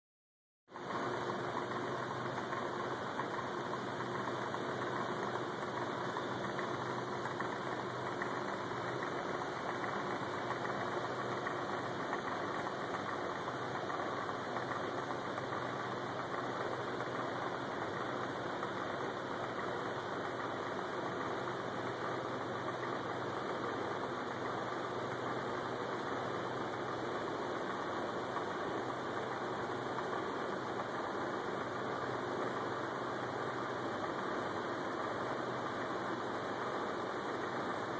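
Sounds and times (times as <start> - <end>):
machinery humming and whirring: 0.8 - 37.9.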